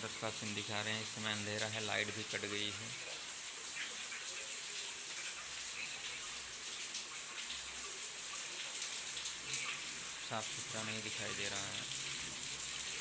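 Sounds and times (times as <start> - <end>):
torrential rain falling: 0.0 - 13.0.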